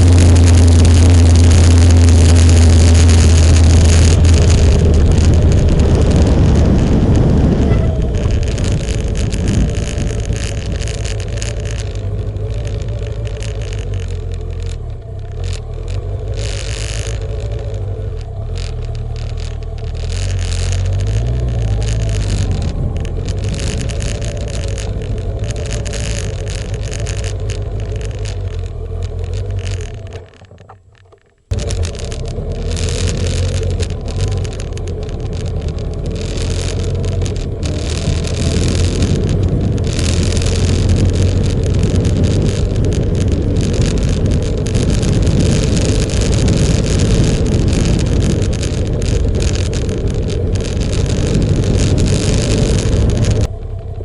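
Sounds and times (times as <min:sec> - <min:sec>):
motorcycle engine hum: 0:00.0 - 0:54.0
wind and road noise: 0:00.0 - 0:54.0.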